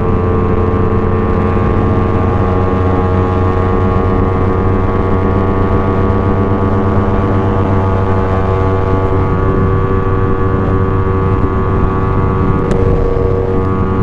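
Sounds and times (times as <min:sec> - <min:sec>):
motorcycle engine cruising: 0:00.0 - 0:14.0
wind and road noise: 0:00.0 - 0:14.0.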